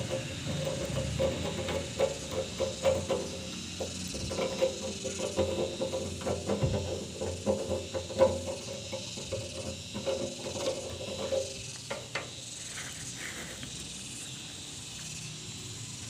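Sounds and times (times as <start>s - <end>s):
high-pitched insect chirring: 0.0s - 16.0s.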